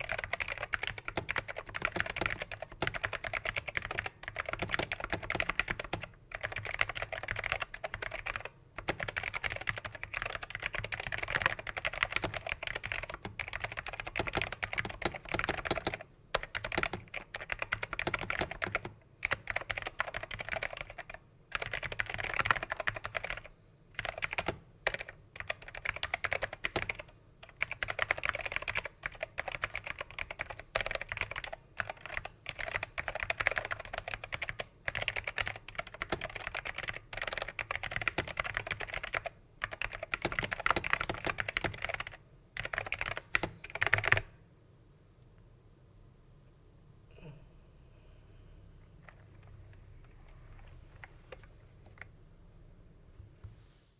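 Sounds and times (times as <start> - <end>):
fast keyboard typing: 0.0 - 44.3, 49.0 - 52.1.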